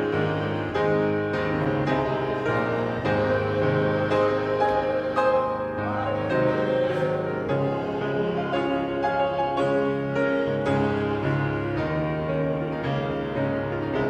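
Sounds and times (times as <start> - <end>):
slow piano piece: 0.0 - 14.0.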